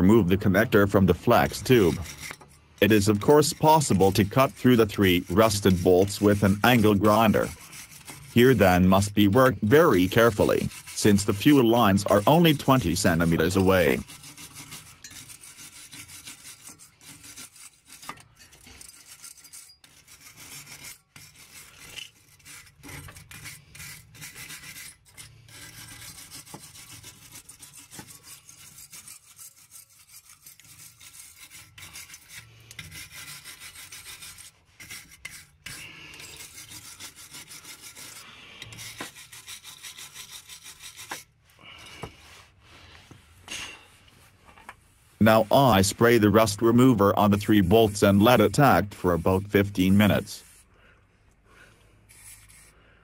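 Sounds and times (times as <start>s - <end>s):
wire brush scrubbing rusty bolts: 0.0s - 42.9s, 43.6s - 52.8s.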